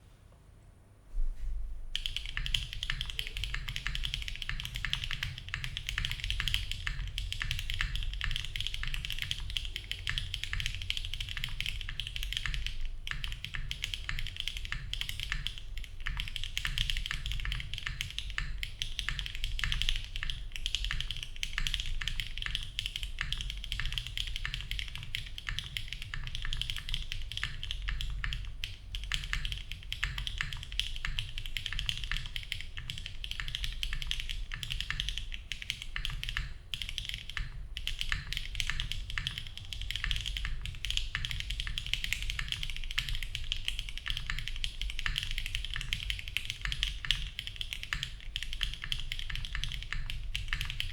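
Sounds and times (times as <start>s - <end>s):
mechanical keyboard typing: 2.0s - 50.9s.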